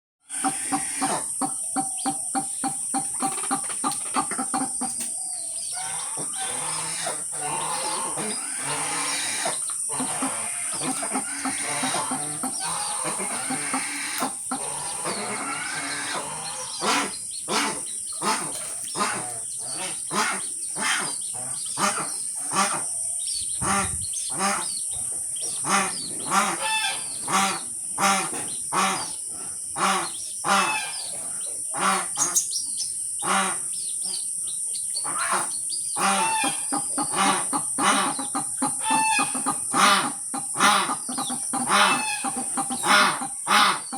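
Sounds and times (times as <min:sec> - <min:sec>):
birds calling: 0:00.3 - 0:43.9.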